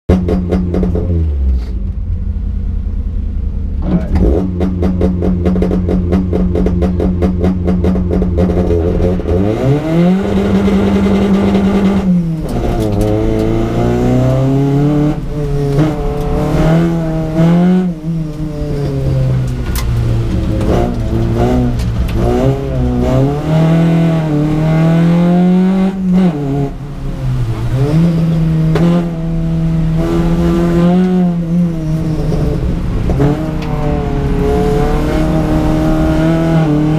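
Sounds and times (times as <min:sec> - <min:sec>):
rally car engine revving: 0:00.1 - 0:02.3, 0:03.2 - 0:36.9.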